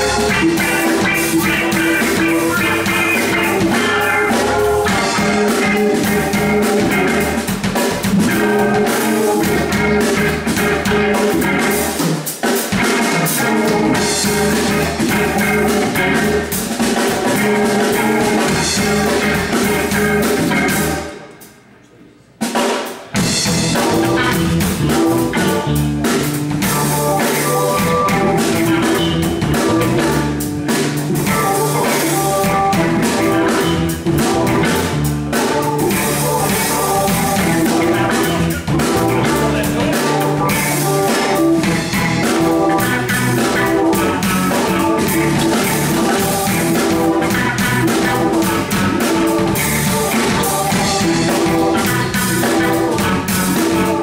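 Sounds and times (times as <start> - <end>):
electric bass: 0.0 - 21.2, 23.2 - 54.0
electric guitar: 0.0 - 21.6, 23.1 - 54.0
drum kit: 0.0 - 54.0
keyboard: 0.0 - 54.0.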